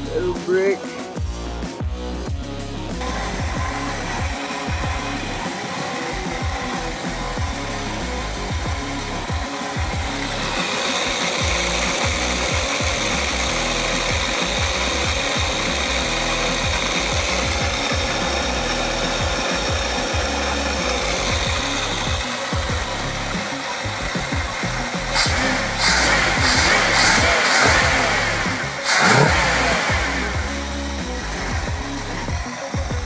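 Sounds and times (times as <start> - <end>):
dense background music: 0.0 - 33.0.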